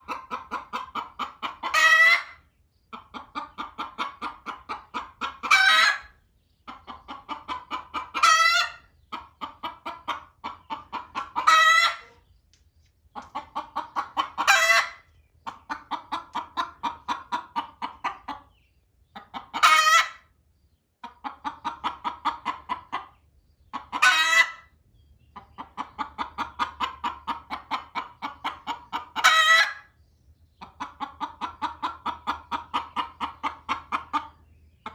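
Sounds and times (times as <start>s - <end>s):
hen cackling and squawking: 0.0s - 12.3s, 13.1s - 20.4s, 21.0s - 30.0s, 30.6s - 34.9s.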